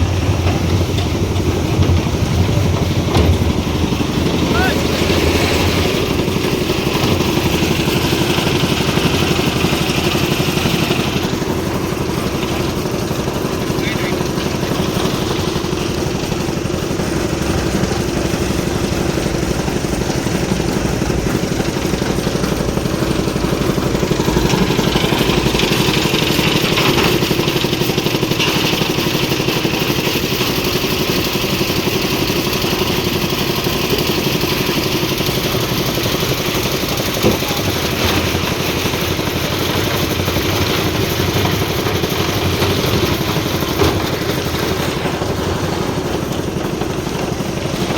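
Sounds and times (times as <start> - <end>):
machine engine running: 0.0 - 47.9.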